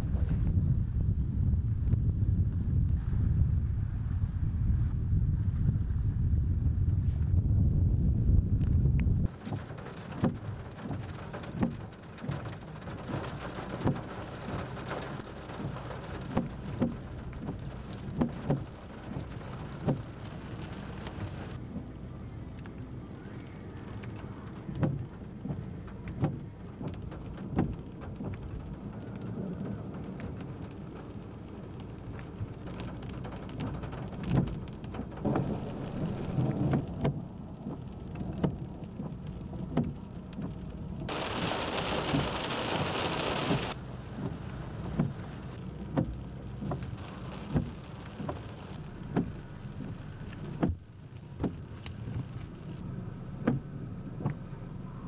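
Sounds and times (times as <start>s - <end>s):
low rumble of thunder: 0.0s - 50.9s
heavy rain pattering: 9.2s - 55.0s.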